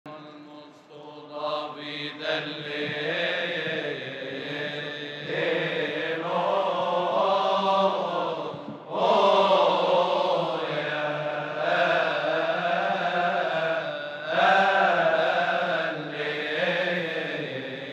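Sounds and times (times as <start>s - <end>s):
men's choir chanting a hymn: 0.1s - 17.9s.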